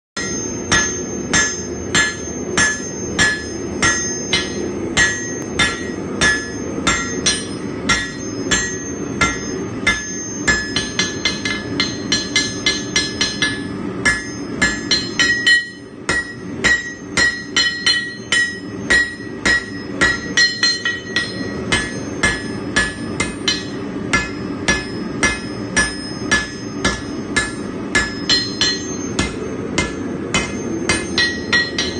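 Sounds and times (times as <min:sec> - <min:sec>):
anvil ringing: 0:00.2 - 0:31.9
hammer striking steel on anvil: 0:00.2 - 0:31.9.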